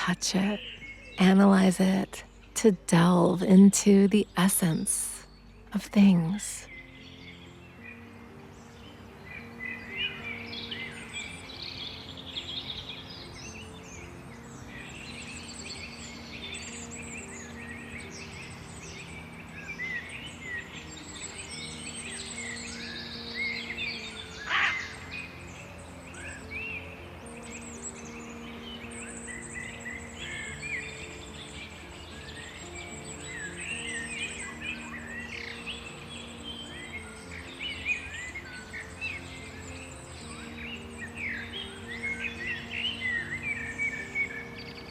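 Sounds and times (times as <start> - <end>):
small birds chirping and trilling: 0.0 - 44.9
soft ambient music: 0.0 - 44.9.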